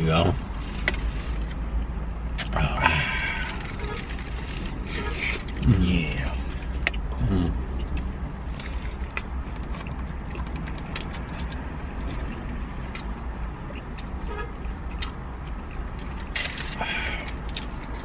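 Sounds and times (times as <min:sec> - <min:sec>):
people eating sandwiches: 0:00.4 - 0:18.0.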